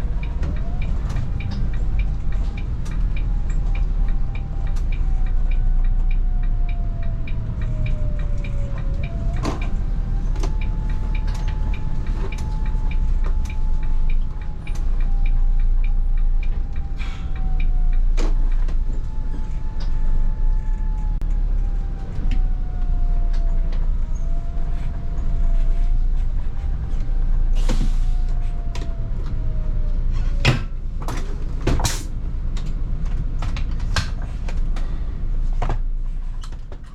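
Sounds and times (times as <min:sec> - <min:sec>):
bus engine and road rumble: 0:00.0 - 0:36.9.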